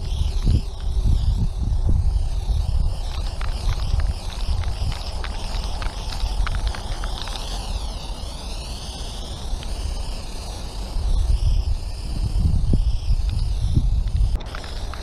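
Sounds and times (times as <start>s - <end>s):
wind buffeting microphone: 0.0s - 8.0s, 10.8s - 15.0s
spray-paint can hissing: 0.0s - 15.0s.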